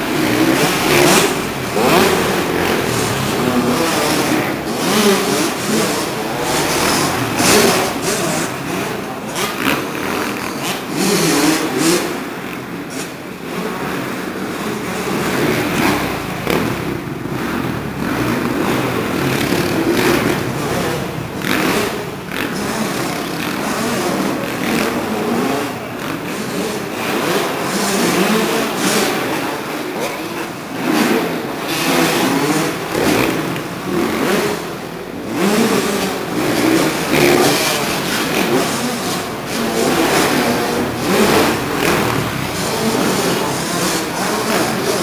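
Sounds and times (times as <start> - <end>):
motocross bike engines revving: 0.0 - 45.0.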